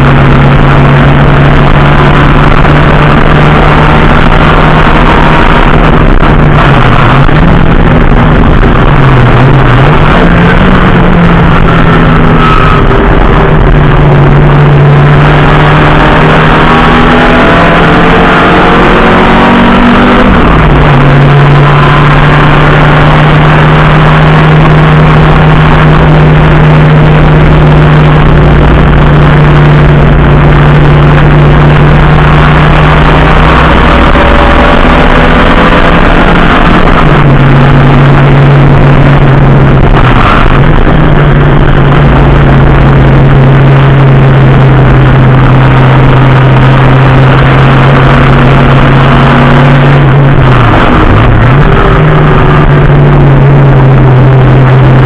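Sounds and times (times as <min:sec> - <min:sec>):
racing car engine running loudly: 0:00.0 - 0:55.0.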